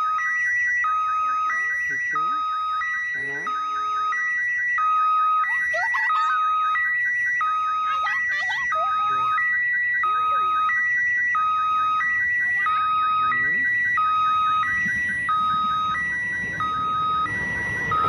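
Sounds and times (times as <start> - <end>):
two-tone level crossing alarm: 0.0 - 18.0.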